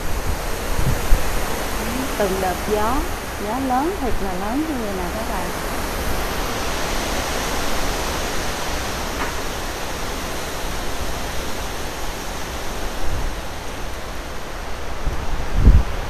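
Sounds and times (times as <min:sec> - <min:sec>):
wind gusting through trees: 0:00.0 - 0:16.0.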